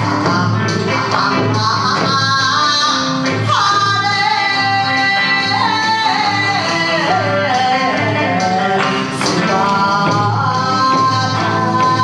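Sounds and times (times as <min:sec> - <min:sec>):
band accompaniment: 0:00.0 - 0:12.0
woman singing into a microphone: 0:00.0 - 0:12.0.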